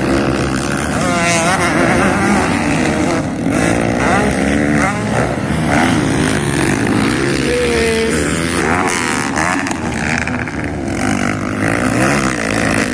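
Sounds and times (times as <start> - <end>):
dirt bike engines revving: 0.0 - 12.9.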